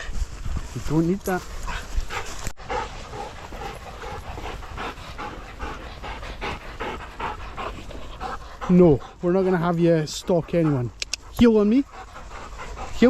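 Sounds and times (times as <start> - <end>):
dog panting: 1.3 - 13.0.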